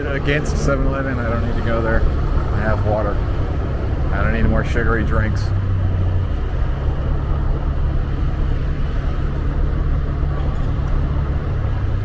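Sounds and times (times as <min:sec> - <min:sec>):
motorbike engine humming: 0:00.0 - 0:12.0
road noise: 0:00.0 - 0:12.0.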